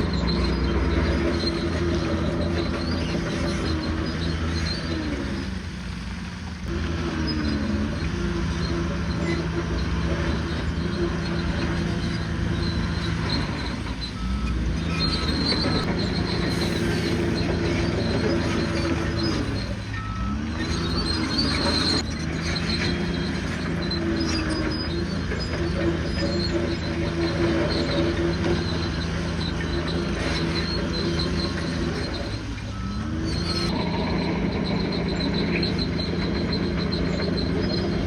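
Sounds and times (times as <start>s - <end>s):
high squeaks: 0.0s - 5.6s, 7.1s - 38.0s
crawler track clatter: 0.0s - 5.8s, 6.4s - 38.0s
bulldozer diesel engine lugging: 0.0s - 38.0s.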